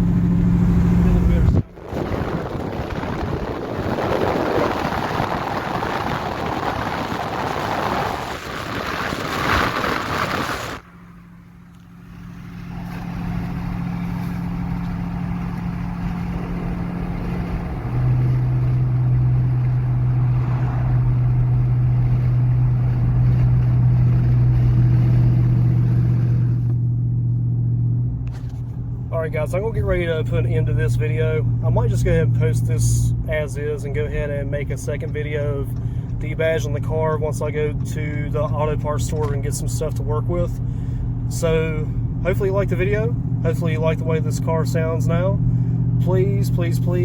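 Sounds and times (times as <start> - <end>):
deep exhaust drone: 0.0 - 47.0
wind and road noise: 0.0 - 47.0.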